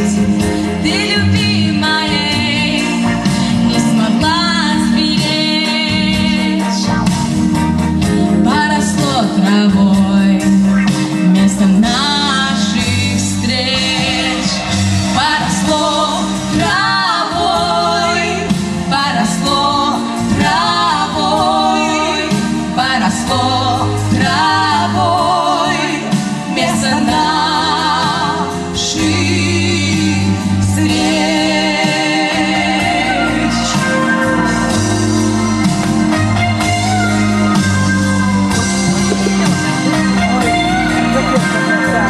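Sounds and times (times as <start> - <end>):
women singing duet: 0.0 - 6.8, 8.0 - 37.7
instrumental accompaniment: 0.0 - 42.0.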